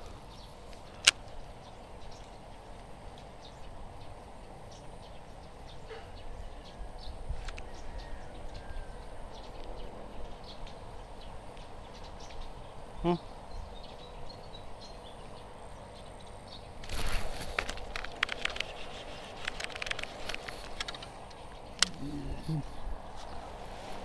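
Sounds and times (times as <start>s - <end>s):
high chirps and ticks: 0.0s - 22.8s.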